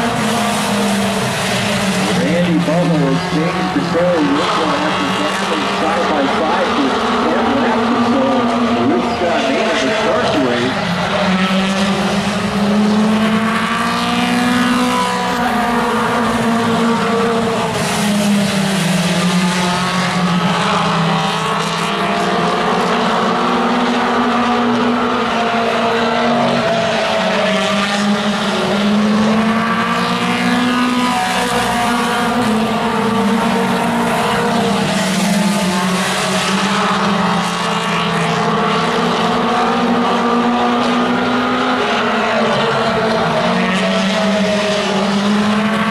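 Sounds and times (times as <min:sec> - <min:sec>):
race car engines running hard: 0:00.0 - 0:45.9.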